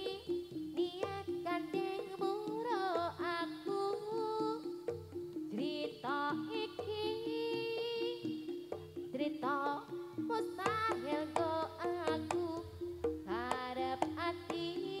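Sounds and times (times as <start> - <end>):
drum strokes: 0.0 - 15.0
repeated pitched gamelan notes: 0.0 - 15.0.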